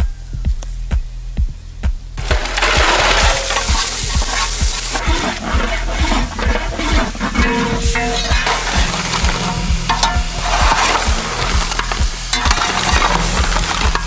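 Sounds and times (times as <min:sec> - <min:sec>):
background music beat: 0:00.0 - 0:14.0
food sizzling in hot oil: 0:02.2 - 0:14.0.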